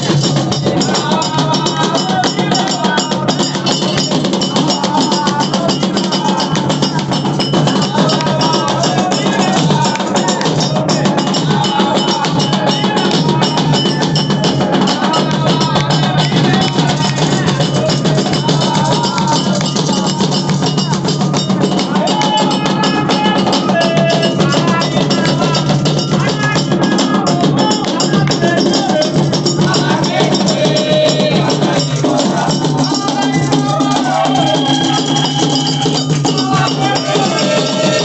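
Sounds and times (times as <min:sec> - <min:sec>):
hand drums playing steady rhythm: 0:00.0 - 0:38.0.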